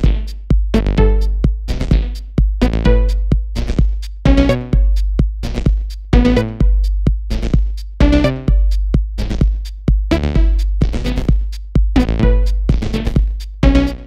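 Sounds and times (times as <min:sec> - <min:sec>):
deep sub-bass: 0:00.0 - 0:14.0
drum machine beat: 0:00.0 - 0:14.0
electronic rave music: 0:00.0 - 0:14.0.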